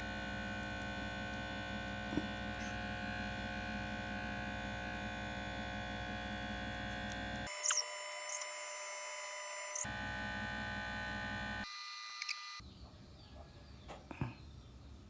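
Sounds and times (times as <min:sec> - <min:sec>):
electrical hum: 0:00.0 - 0:12.6.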